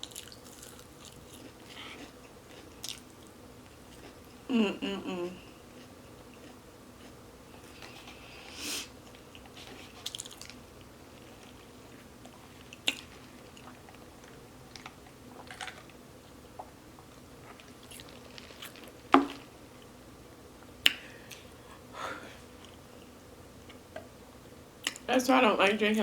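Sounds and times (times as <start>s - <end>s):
person chewing food: 0.0s - 4.4s, 5.4s - 19.9s, 20.8s - 24.1s.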